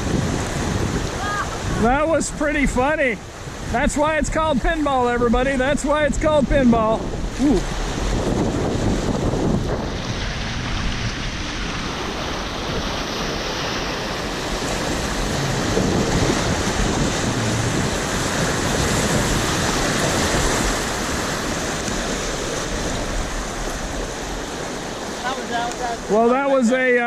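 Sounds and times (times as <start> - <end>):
wind on microphone: 0.0 - 25.2
whitewater rapids rushing: 0.0 - 27.0.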